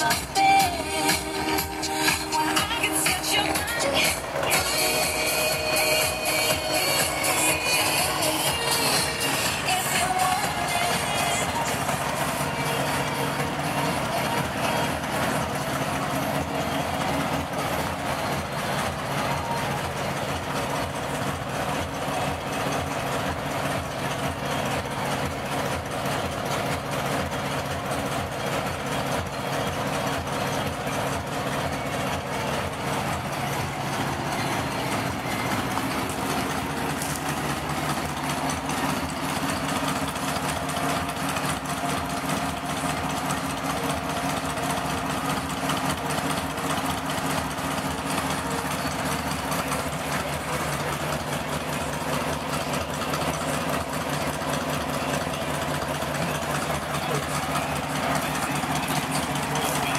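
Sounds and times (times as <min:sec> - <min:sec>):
dune buggy engine idling: 0:00.0 - 0:59.9.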